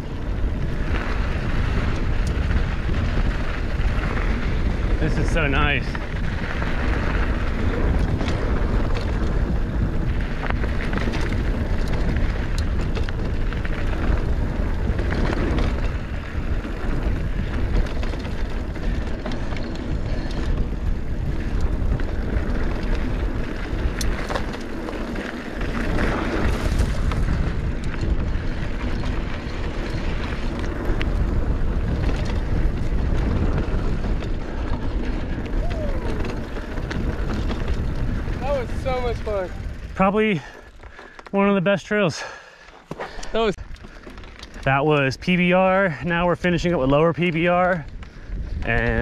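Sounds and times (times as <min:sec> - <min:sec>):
wind buffeting microphone: 0:00.0 - 0:41.3, 0:43.2 - 0:49.0
bike clicks and rattles: 0:00.0 - 0:49.0
tyres rolling on dirt trail: 0:00.0 - 0:49.0.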